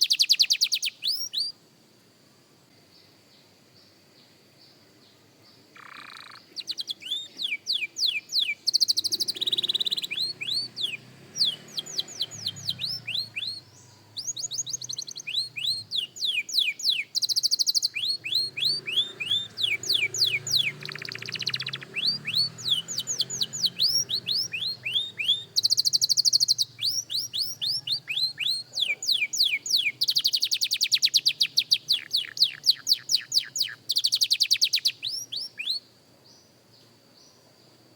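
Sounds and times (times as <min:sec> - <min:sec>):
canary singing: 0:00.0 - 0:01.6, 0:05.8 - 0:35.9.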